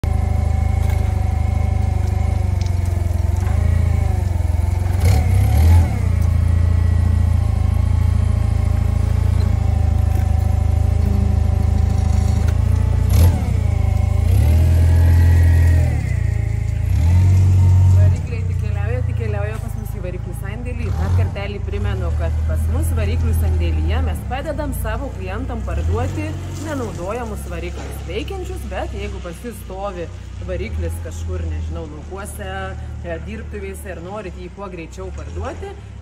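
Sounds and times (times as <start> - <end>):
forklift engine revving: 0.0 - 36.0.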